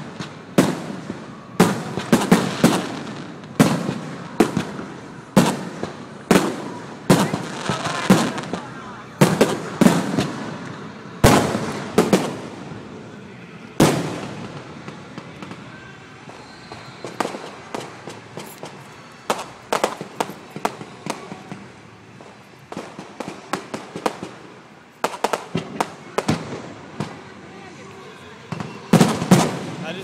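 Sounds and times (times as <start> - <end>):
firework booms with echo: 0.0 - 13.1, 13.8 - 27.3, 28.5 - 30.0
firework bangs and crackles: 0.0 - 30.0.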